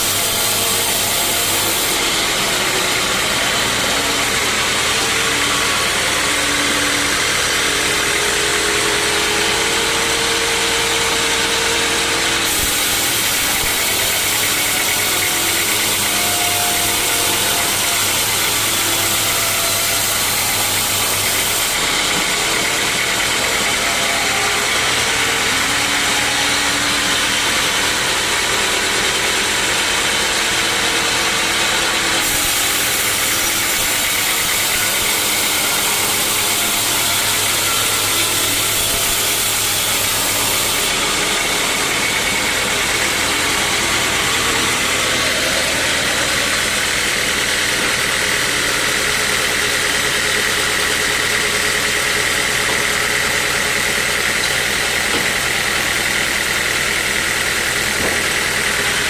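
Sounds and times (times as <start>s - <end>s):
high saw whine: 0.0s - 59.0s
sawmill machinery humming: 0.0s - 59.0s.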